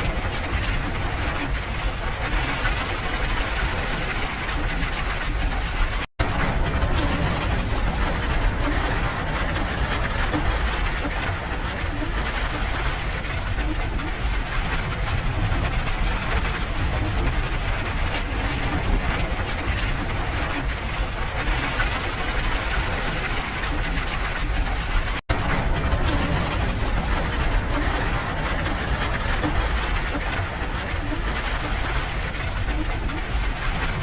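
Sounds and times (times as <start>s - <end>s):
deep rumble: 0.0s - 34.0s
steady rain: 0.0s - 34.0s.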